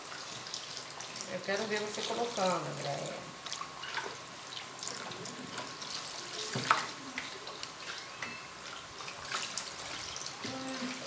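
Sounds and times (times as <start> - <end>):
liquid trickling and splashing: 0.0 - 11.0.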